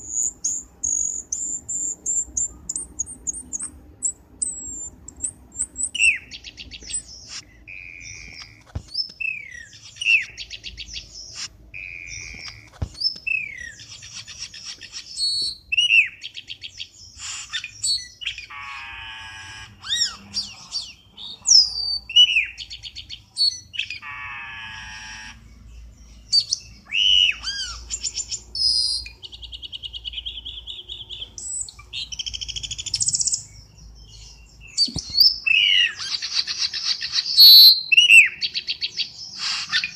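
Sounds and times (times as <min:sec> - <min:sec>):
bird song with whistled chirps: 0:00.0 - 0:39.9.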